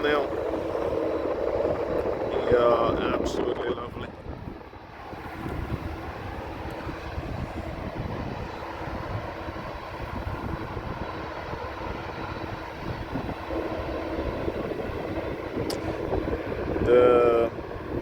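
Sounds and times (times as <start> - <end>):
jet engines rumbling on takeoff: 0.0 - 18.0.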